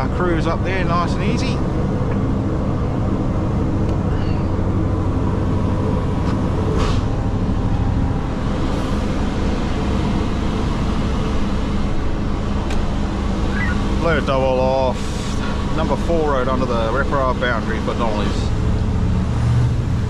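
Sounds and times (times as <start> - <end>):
road noise: 0.0 - 20.0
truck diesel engine running: 0.0 - 20.0.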